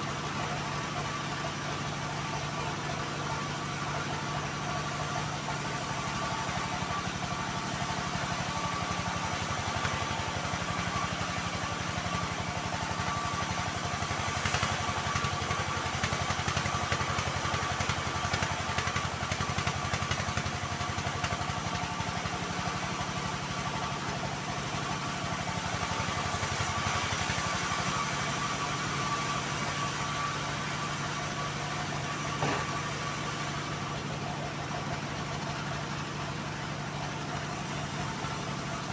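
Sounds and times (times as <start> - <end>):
bandsaw mill sawing a log: 0.0 - 38.9.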